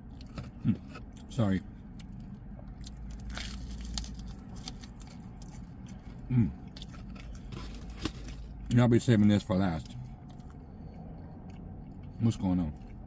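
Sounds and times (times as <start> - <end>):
crunching and chewing food: 0.0 - 13.0
steady low hum: 0.0 - 13.0.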